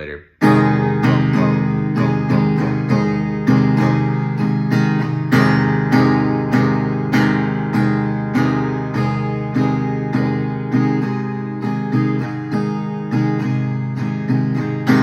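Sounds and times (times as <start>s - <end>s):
acoustic guitar strumming: 0.4s - 15.0s.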